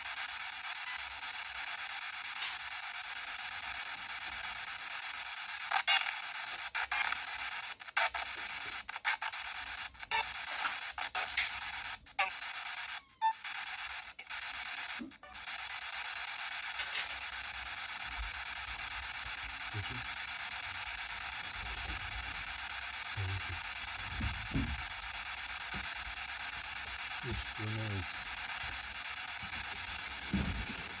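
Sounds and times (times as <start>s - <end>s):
radio clicks and cut-outs: 0.0s - 31.0s
radio static hiss: 0.0s - 31.0s.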